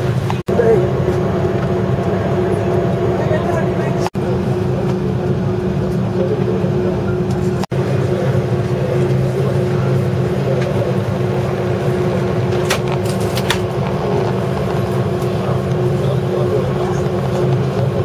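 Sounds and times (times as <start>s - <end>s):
aircraft cabin droning hum: 0.0s - 18.0s.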